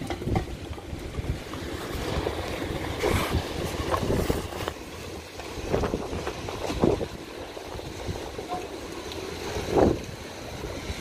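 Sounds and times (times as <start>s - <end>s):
wind gusting on microphone: 0.0s - 11.0s.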